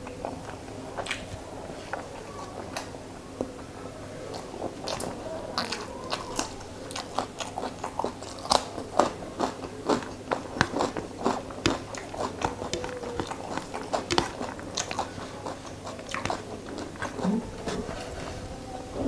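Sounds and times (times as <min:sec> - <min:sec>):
mouth chewing clicks and crunches: 0:00.0 - 0:03.0, 0:04.3 - 0:17.8.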